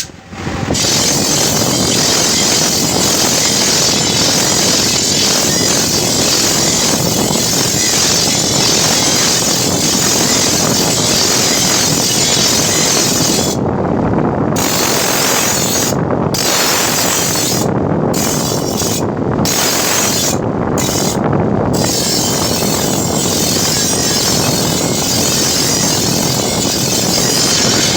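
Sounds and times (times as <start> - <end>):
steel grinding on abrasive wheel: 0.0 - 13.7, 14.6 - 27.9.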